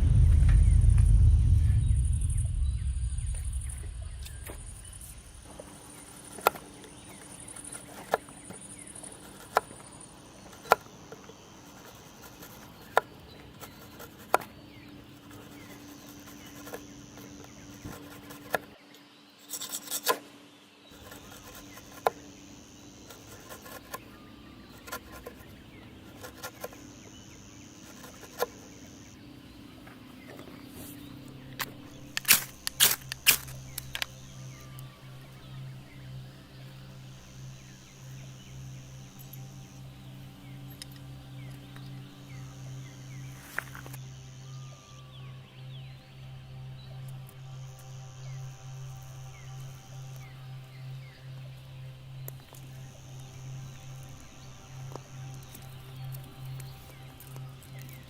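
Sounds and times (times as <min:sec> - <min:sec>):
high insect buzz: 0:00.0 - 0:18.8, 0:21.0 - 0:29.7, 0:30.6 - 0:58.0.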